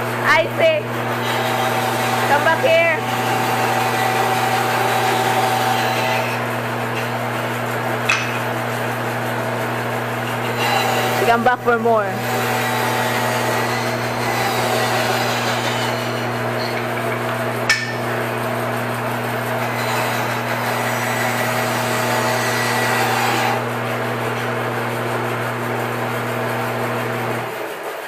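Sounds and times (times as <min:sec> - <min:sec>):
bandsaw humming: 0:00.0 - 0:28.0.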